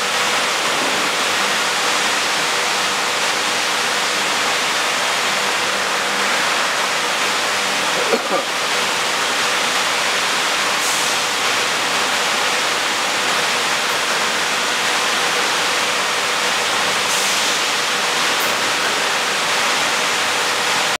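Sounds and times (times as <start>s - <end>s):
rushing hiss of factory: 0.0s - 21.0s.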